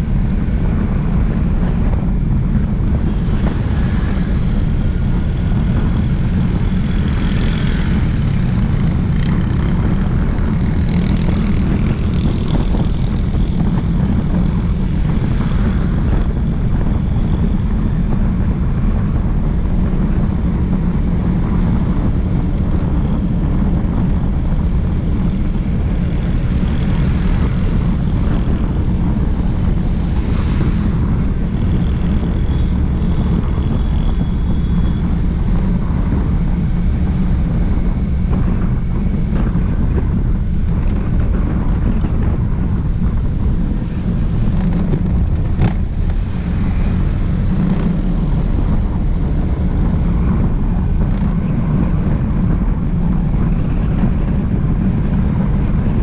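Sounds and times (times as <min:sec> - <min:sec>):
engine and tyre rumble: 0:00.0 - 0:56.0
wind buffeting microphone: 0:00.0 - 0:56.0.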